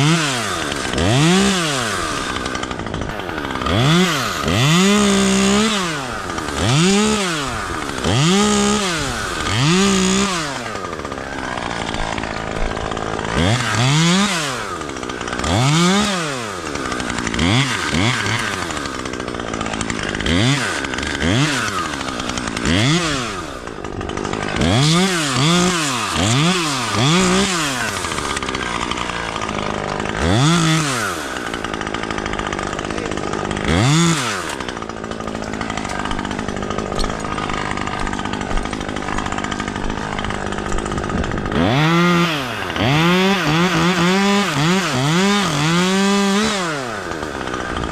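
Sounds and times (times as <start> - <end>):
battery chainsaw revving: 0.0 - 47.9.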